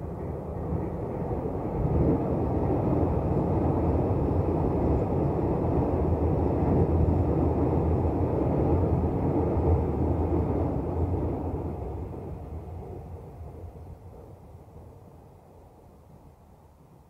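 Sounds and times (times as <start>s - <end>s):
train rumbling across viaduct: 0.0s - 17.0s.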